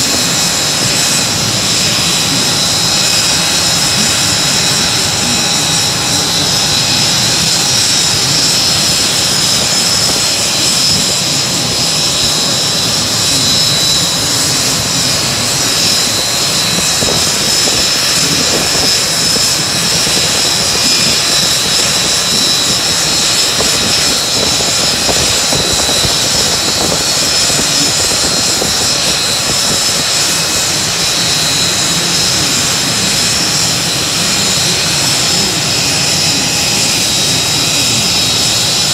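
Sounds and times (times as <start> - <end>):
turbine aircraft engine running: 0.0 - 38.9.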